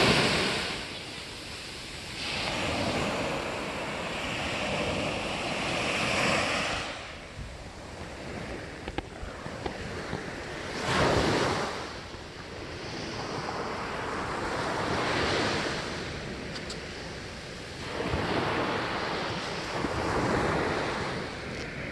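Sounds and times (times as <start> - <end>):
sea waves washing ashore: 0.0 - 21.9.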